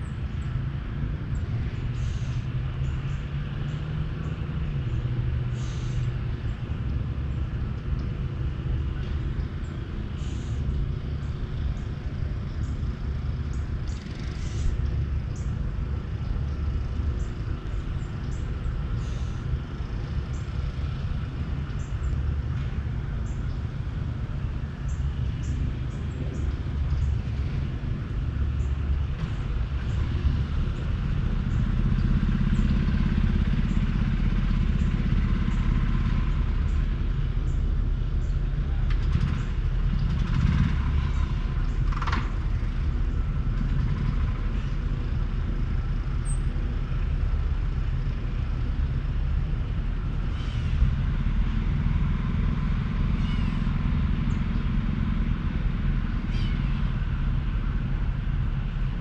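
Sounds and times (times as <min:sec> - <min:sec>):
low outdoor rumble: 0:00.0 - 0:59.0.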